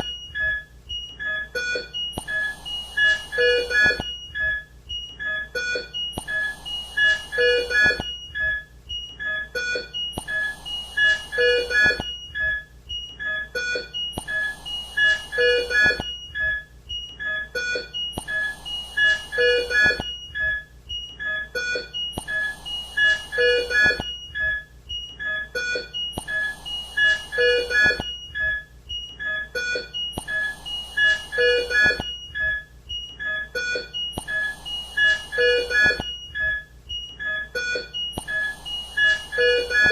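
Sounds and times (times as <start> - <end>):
patient monitor beeps: 0.0 - 39.9
repeating alarm tones: 0.0 - 39.9.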